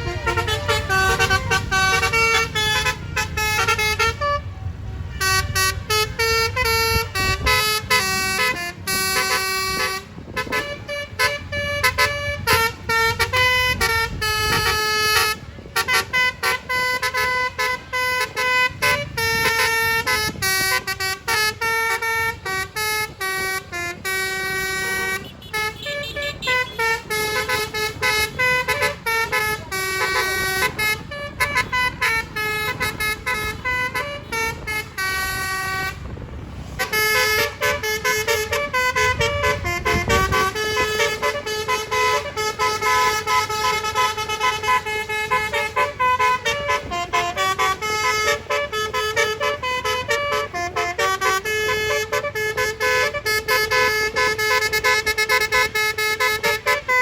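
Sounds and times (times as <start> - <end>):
multi-tone bus horn tune: 0.0 - 57.0.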